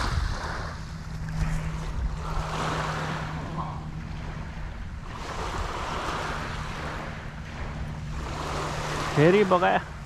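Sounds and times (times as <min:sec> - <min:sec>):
ocean waves washing onto shore: 0:00.0 - 0:10.0
wind rumbling on microphone: 0:00.0 - 0:10.0.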